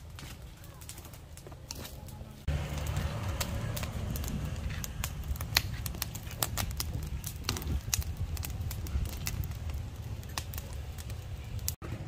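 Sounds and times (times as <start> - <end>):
dry grass fire crackling: 0.0 - 12.0
low steady rumble: 2.1 - 12.0.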